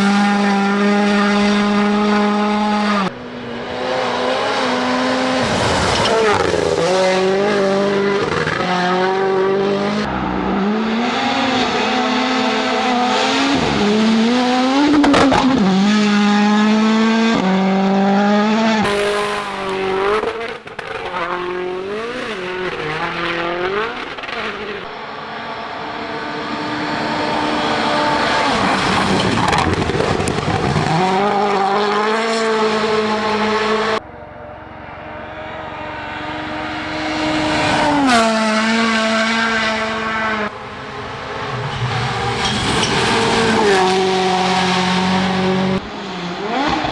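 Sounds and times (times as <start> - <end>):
rally car engines revving: 0.0 - 46.9.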